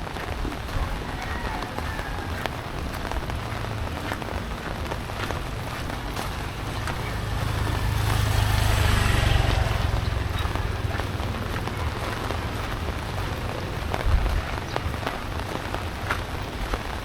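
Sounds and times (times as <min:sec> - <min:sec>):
heavy rain falling on surfaces: 0:00.0 - 0:17.0
low rumble: 0:02.4 - 0:16.7.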